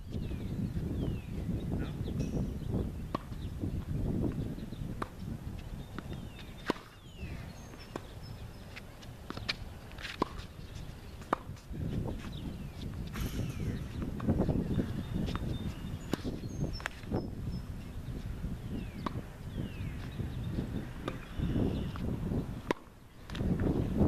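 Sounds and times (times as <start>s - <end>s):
wind rumbling on microphone: 0.0s - 24.0s
tennis balls struck by rackets: 1.9s - 17.2s, 18.8s - 23.8s.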